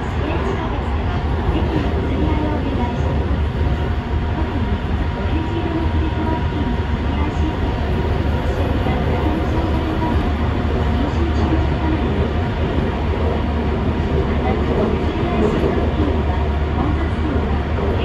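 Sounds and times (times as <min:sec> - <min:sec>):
train rumbling in tunnel: 0:00.0 - 0:18.0.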